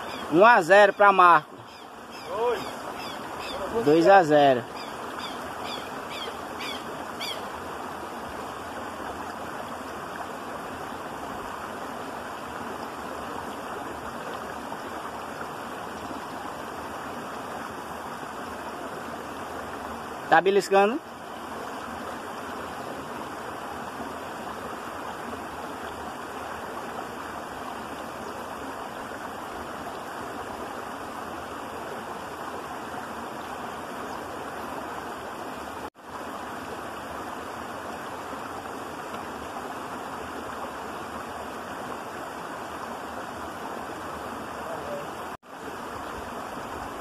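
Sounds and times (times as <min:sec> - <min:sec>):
creek water babbling over rocks: 0:00.0 - 0:47.0.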